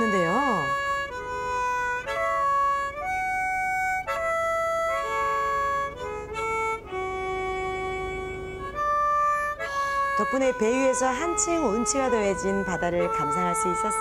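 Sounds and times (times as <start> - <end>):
harmonica melody: 0.0 - 14.0.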